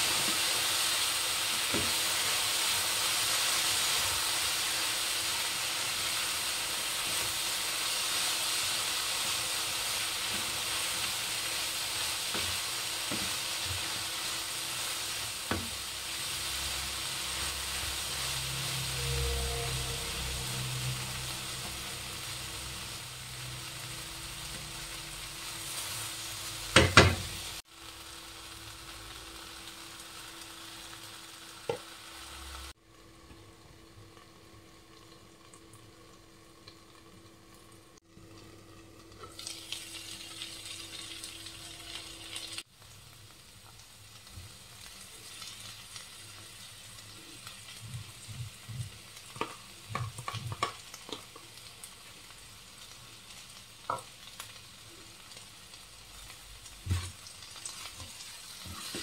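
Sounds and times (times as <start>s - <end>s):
vegetables sizzling in frying pan: 0.0s - 59.0s.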